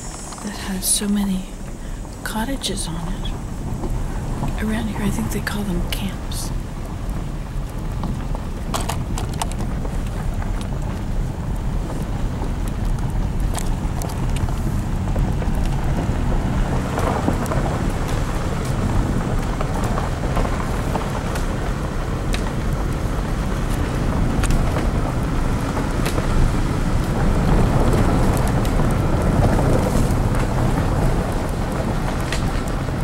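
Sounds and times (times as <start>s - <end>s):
tyres rumbling on gravel: 0.0s - 33.0s.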